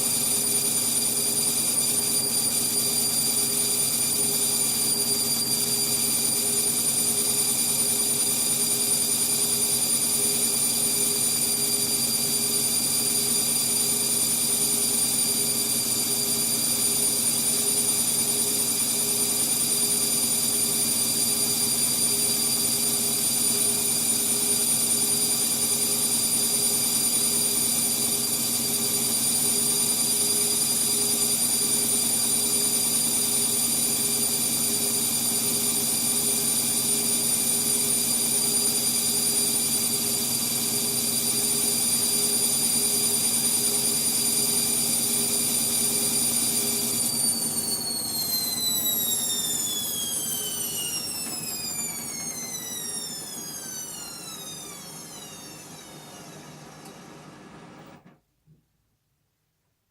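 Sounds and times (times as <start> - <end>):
washing machine spinning: 0.0 - 57.8.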